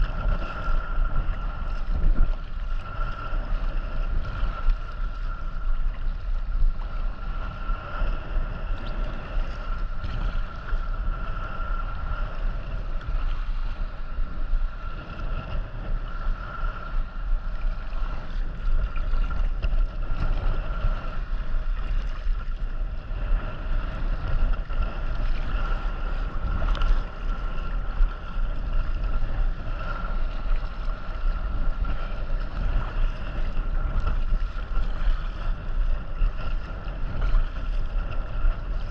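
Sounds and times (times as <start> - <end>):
water noise: 0.0 - 38.9
wind buffeting microphone: 0.0 - 38.9.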